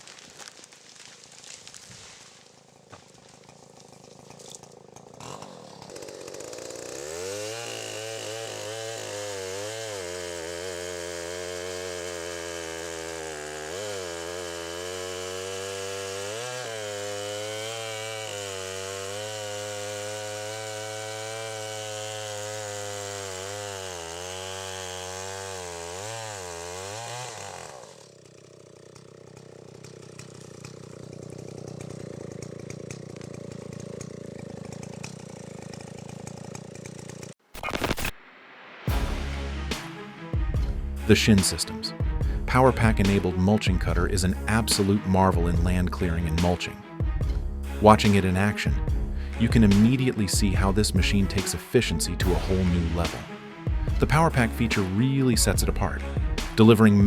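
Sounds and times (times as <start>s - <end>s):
chainsaw cutting wood: 0.0s - 38.2s, 38.9s - 57.0s.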